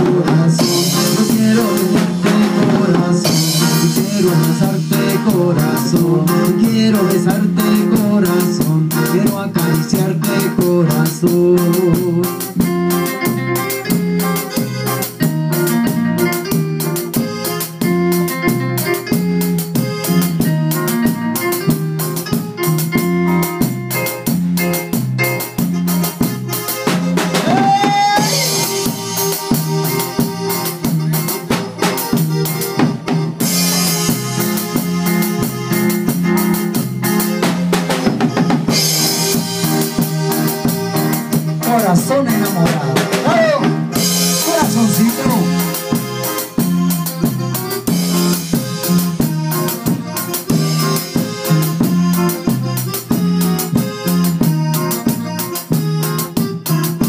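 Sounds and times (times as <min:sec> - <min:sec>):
drum kit beat: 0:00.0 - 0:57.0
electric guitar: 0:00.0 - 0:57.0
electronic keyboard: 0:00.0 - 0:57.0.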